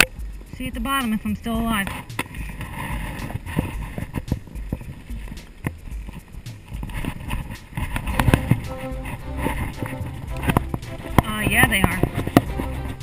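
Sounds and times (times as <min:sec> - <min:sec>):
wind rumble on microphone: 0:00.2 - 0:13.0
bike frame rattling and knocking: 0:01.6 - 0:13.0.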